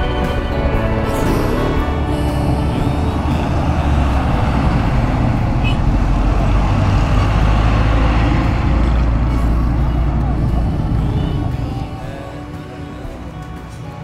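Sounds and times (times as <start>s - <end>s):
trucks and cars passing: 0.0s - 14.0s.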